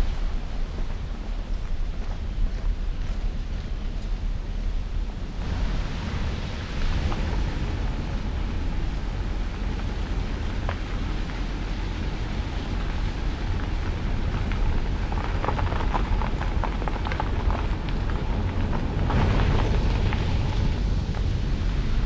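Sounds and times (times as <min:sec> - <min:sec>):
crackling rustle: 0:00.0 - 0:22.0
wind buffeting microphone: 0:00.0 - 0:22.0
wind through forest canopy: 0:00.0 - 0:22.0.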